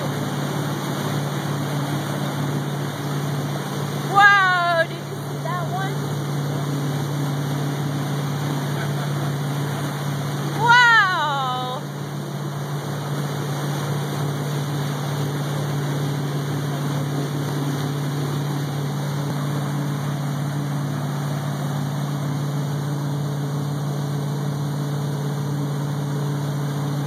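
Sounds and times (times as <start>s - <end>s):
motorboat engine droning: 0.0s - 27.0s
water splashing along hull: 0.0s - 27.0s.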